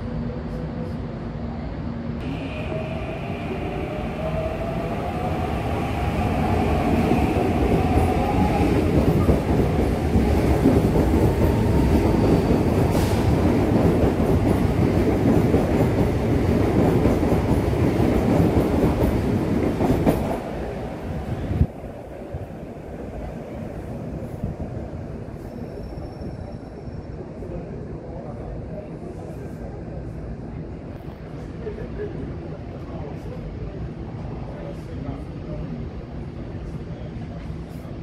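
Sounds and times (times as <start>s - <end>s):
train wheels rumbling on rails: 2.2s - 35.6s.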